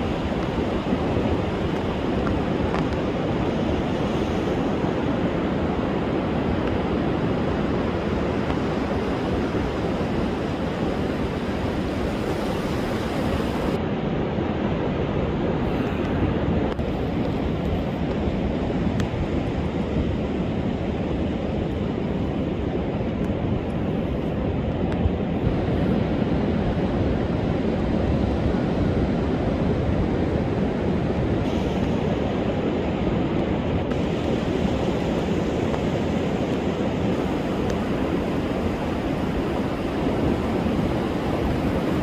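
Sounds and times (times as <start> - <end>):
rough surf breaking on beach: 0.0 - 13.8, 14.6 - 42.0
wind noise on microphone: 0.0 - 42.0.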